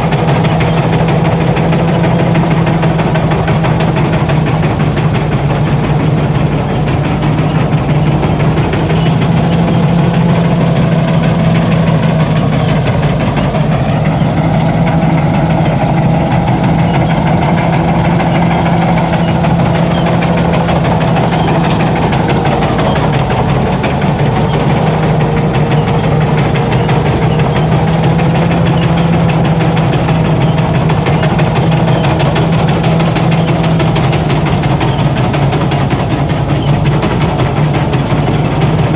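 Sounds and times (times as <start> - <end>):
combine harvester drone: 0.0 - 38.9
wavering tones: 0.0 - 38.9.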